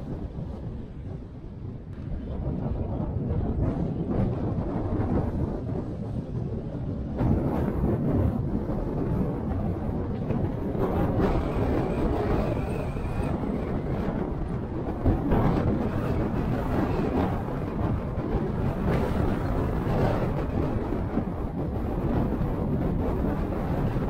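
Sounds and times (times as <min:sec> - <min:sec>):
car road and tyre noise: 0:00.0 - 0:24.0.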